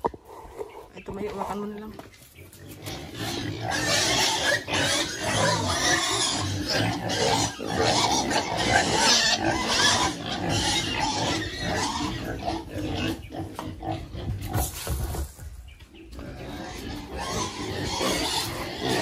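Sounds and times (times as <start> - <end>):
pigs grunting and squealing: 0.0 - 14.7, 15.9 - 19.0.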